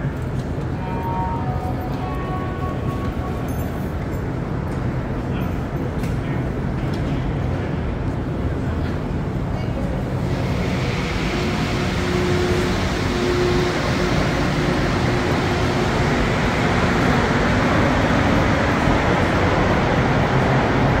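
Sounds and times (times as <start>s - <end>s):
metro train rumbling in tunnel: 0.0s - 21.0s.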